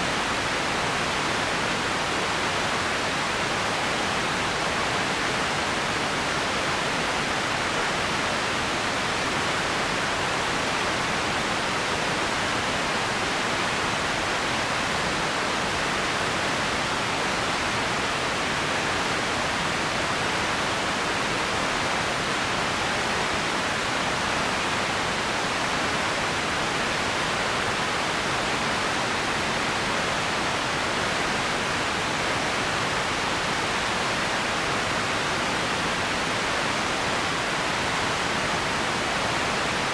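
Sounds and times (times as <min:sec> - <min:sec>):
steady ambient hiss: 0:00.0 - 0:39.9.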